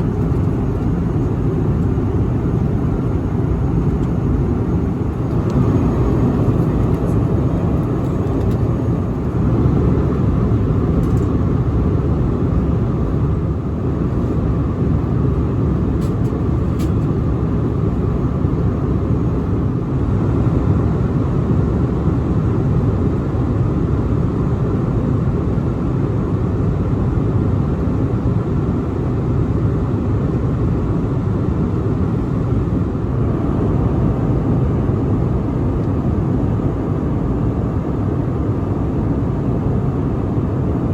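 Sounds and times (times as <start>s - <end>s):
aircraft cabin engine roar: 0.0s - 40.9s.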